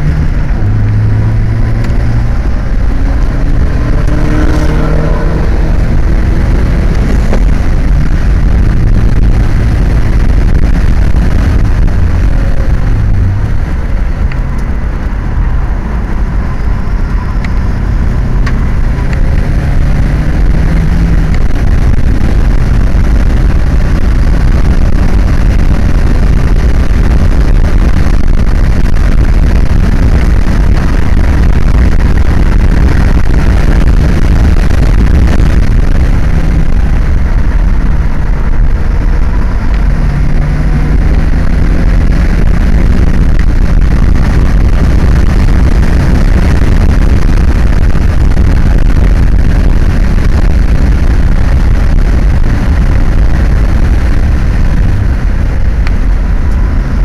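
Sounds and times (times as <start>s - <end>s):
sports car engine accelerating: 0.0s - 57.0s
wind and road noise: 0.0s - 57.0s.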